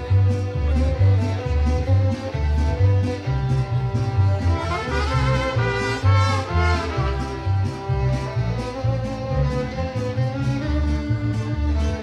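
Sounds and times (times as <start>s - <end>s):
plucked bass beat: 0.0s - 12.0s
strummed guitars: 0.0s - 12.0s
violins with vibrato: 0.0s - 12.0s.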